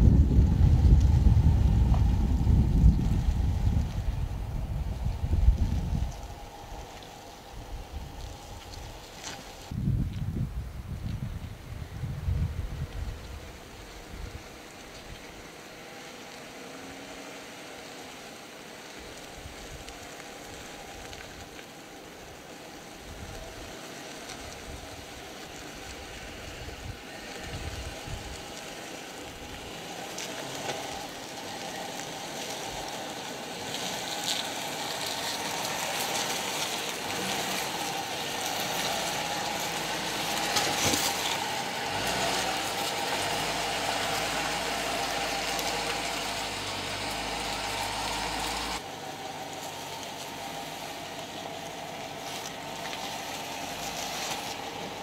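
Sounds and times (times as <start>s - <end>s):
suv engine running at low revs: 0.0s - 55.0s.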